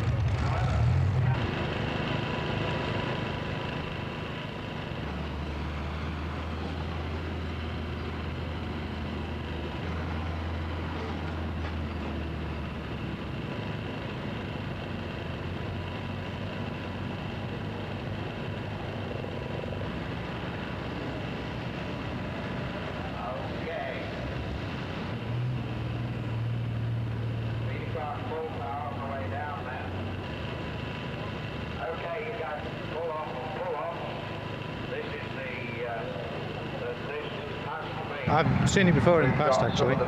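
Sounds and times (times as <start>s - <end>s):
tractor engine droning: 0.0s - 40.0s.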